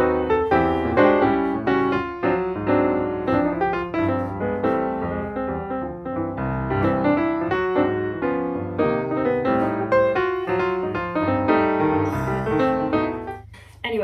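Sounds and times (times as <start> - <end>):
piano music: 0.0 - 13.5.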